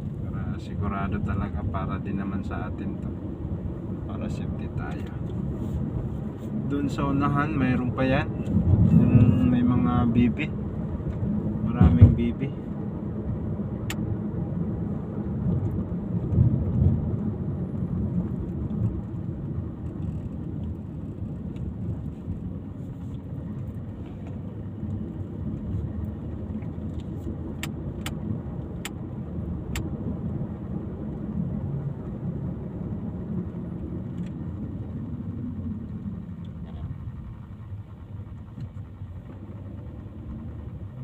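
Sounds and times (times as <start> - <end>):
vehicle rumbling on the move: 0.0 - 41.0.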